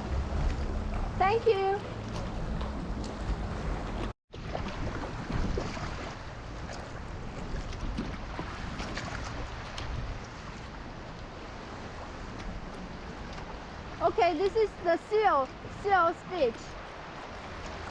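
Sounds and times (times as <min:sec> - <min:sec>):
sea water sloshing and splashing: 0:00.0 - 0:17.9
wind on microphone: 0:00.0 - 0:17.9.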